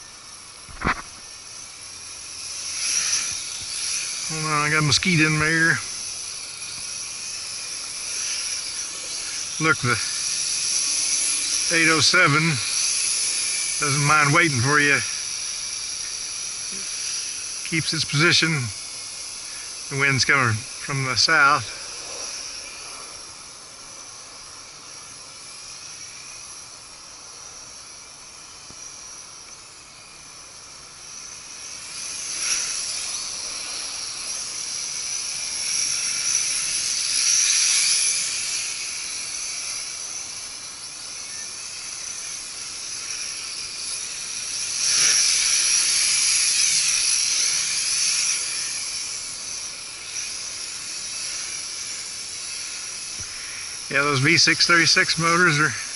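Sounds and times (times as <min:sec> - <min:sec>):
toy drone propellers whining: 0:00.0 - 0:55.9.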